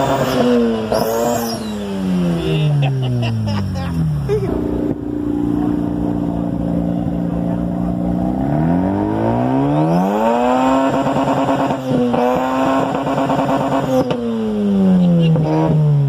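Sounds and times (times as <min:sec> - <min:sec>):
rotary engine revving: 0:00.0 - 0:16.0.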